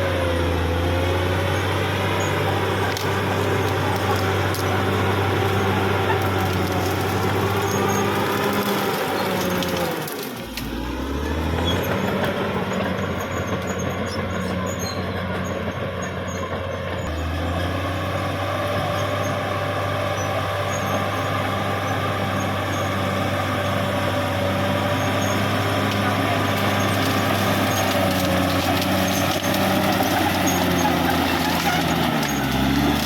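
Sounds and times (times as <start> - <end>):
bulldozer diesel engine: 0.0 - 33.0.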